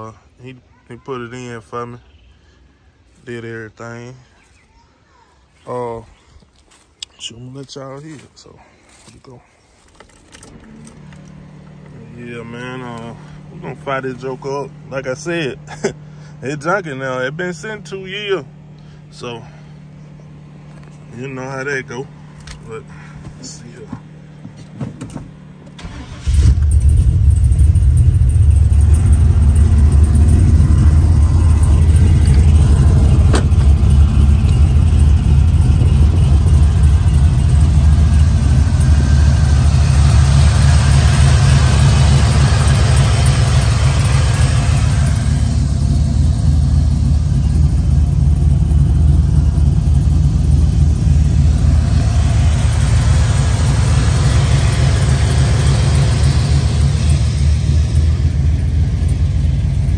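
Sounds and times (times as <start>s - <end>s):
truck engine starting and running: 5.7s - 59.9s.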